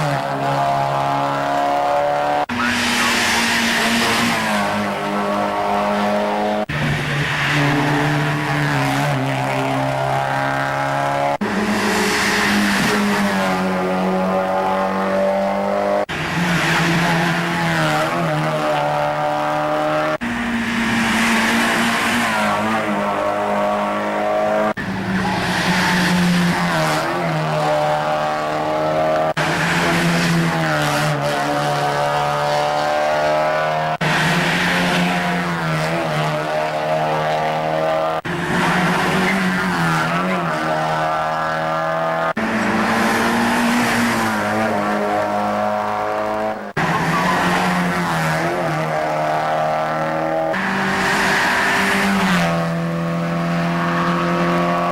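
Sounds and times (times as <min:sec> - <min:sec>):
race car engines at high revs: 0:00.0 - 0:54.9.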